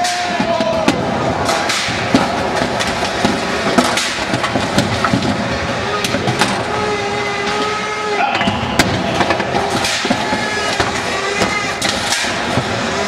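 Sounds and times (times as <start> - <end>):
spectators shouting: 0.0 - 3.7, 5.5 - 13.0.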